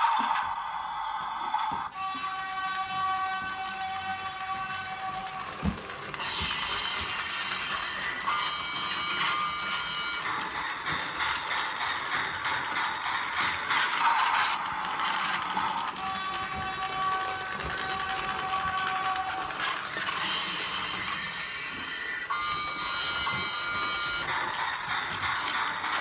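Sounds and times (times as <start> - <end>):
toy train motor whirring: 0.0 - 26.0
thin high steady tones: 2.1 - 26.0.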